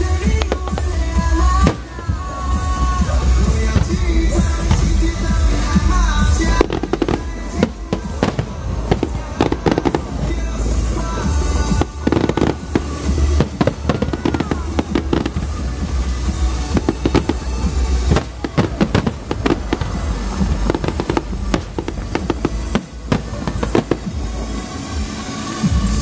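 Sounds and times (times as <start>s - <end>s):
firework shells bursting: 0.0s - 25.2s
continuous low rumble: 0.0s - 26.0s.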